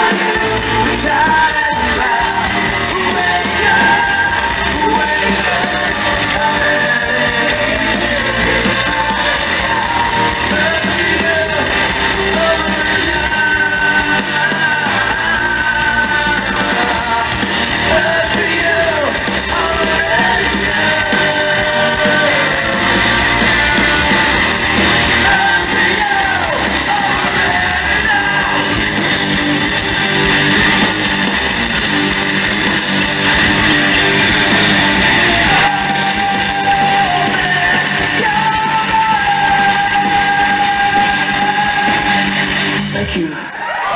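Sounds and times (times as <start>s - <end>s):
bass guitar: 0.0s - 43.4s
drums: 0.0s - 43.9s
electric guitar: 0.0s - 43.9s.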